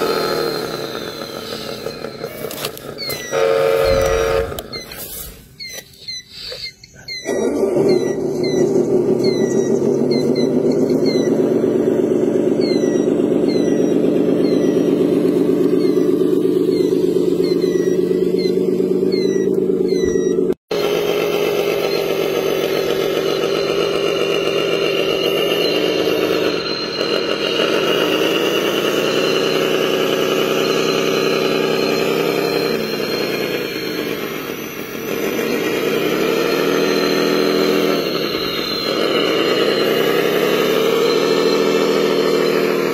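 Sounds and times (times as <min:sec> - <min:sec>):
model motors whining: 0:00.0 - 0:42.9.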